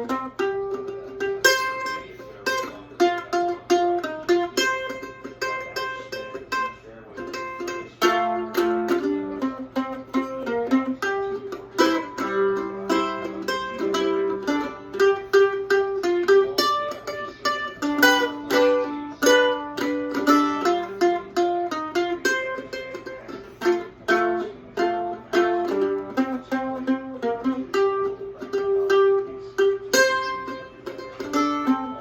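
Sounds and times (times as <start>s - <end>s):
mandolin playing blues: 0.0s - 32.0s.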